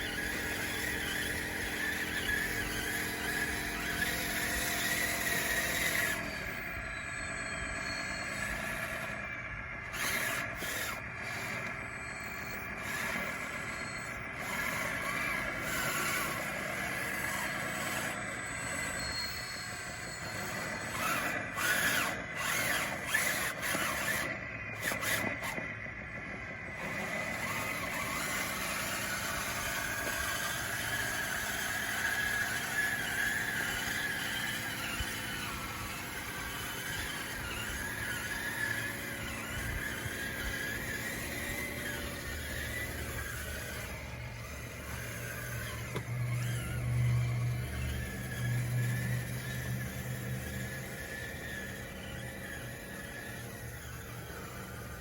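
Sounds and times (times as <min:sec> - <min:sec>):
toy bulldozer motors whining: 0:00.0 - 0:55.0.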